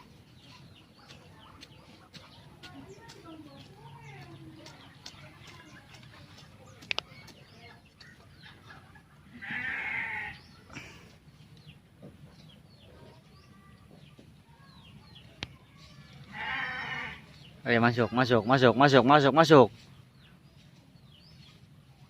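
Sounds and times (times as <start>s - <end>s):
loud farmyard animal calls: 0.0s - 13.7s, 14.6s - 20.4s.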